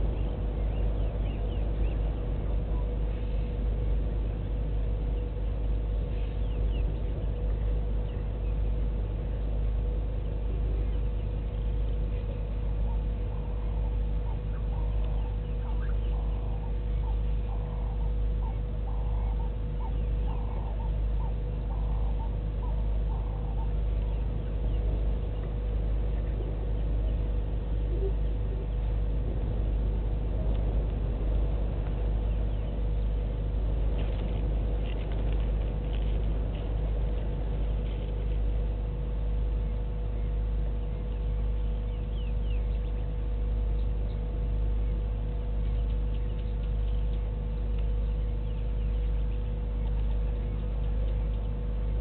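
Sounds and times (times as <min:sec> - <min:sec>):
faint hum: 0:00.0 - 0:52.0
low outdoor rumble: 0:00.0 - 0:52.0.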